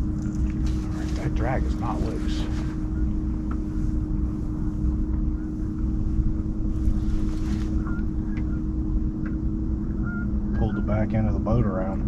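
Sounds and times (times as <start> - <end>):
wind on microphone: 0.0 - 11.2
boat motor humming: 0.0 - 12.0.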